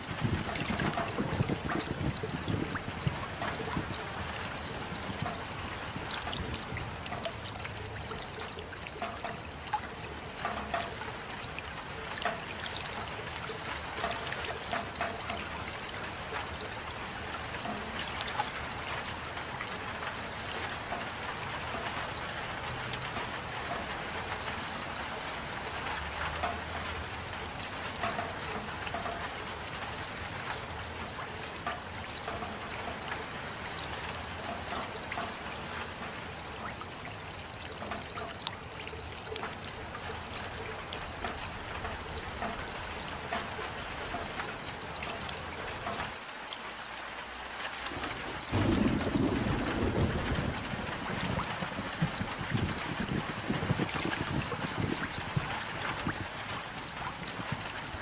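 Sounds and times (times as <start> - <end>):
raindrops ticking: 0.0 - 58.0
steady rain falling: 0.0 - 58.0.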